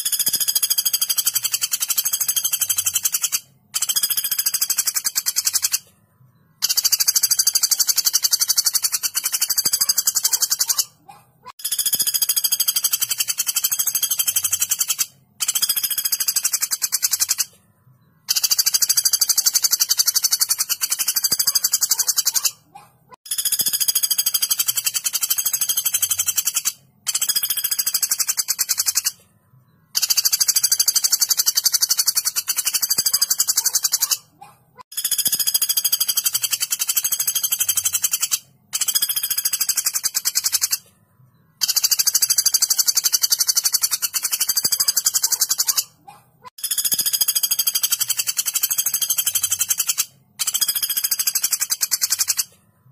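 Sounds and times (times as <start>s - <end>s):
woodpecker rattling call: 0.0s - 5.9s, 6.6s - 17.6s, 18.2s - 29.2s, 29.9s - 40.9s, 41.6s - 52.6s.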